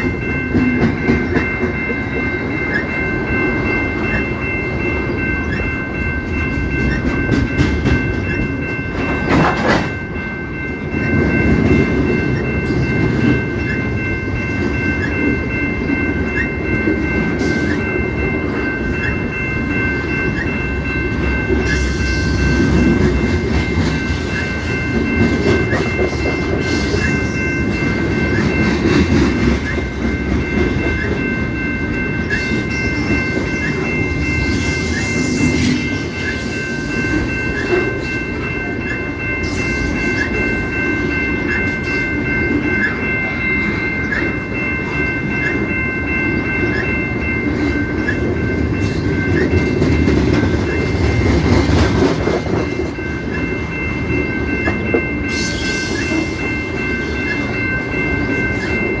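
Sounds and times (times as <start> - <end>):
steady high ringing tone: 0.0 - 59.0
train cars rumbling: 0.0 - 59.0.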